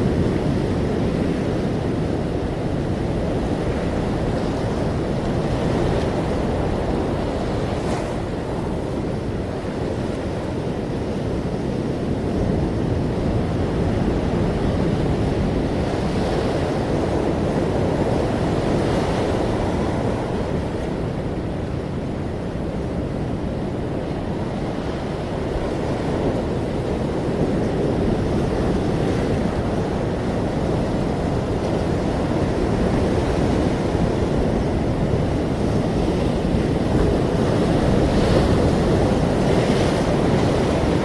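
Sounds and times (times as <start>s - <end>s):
ocean waves breaking on shore: 0.0s - 41.0s.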